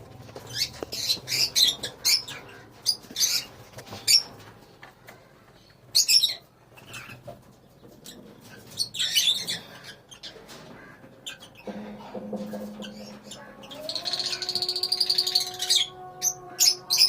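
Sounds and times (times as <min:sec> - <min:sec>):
lovebirds chirping and screeching: 0:00.3 - 0:04.5, 0:05.5 - 0:17.0.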